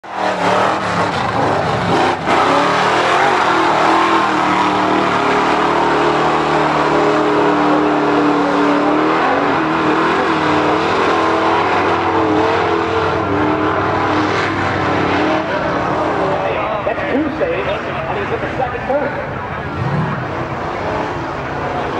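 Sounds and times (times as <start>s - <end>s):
truck churning through mud: 0.0s - 18.9s
truck engine running hard: 0.0s - 21.9s.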